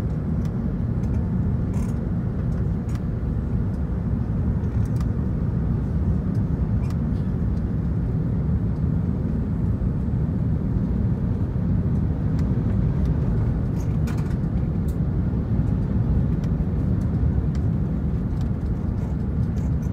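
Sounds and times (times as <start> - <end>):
jet engines rumbling in cabin: 0.0 - 19.9.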